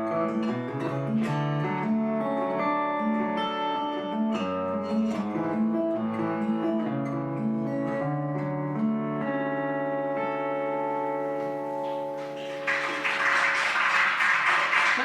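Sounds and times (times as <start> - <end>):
acoustic guitar country music: 0.0 - 13.5.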